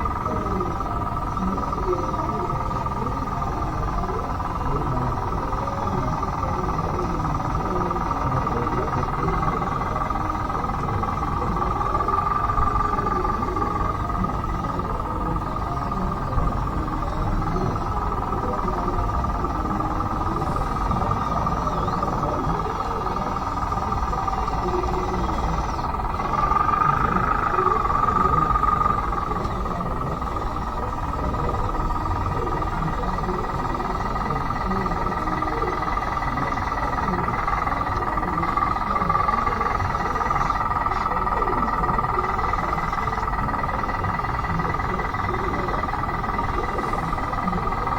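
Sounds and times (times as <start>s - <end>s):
toy bulldozer motor whine: 0.0s - 47.9s.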